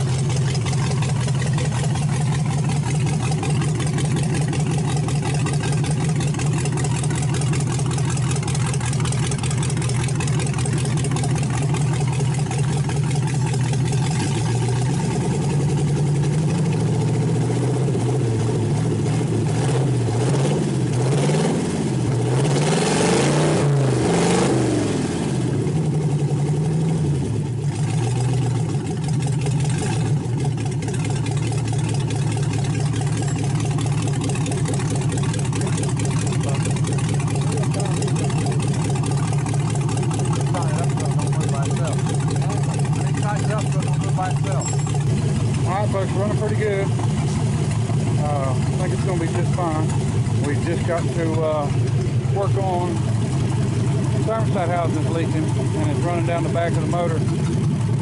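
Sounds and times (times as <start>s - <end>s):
engine idling and revving: 0.0s - 58.0s.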